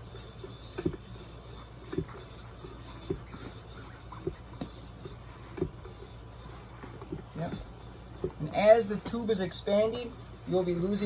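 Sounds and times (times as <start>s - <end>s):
bicycle pump strokes: 0.0s - 11.0s.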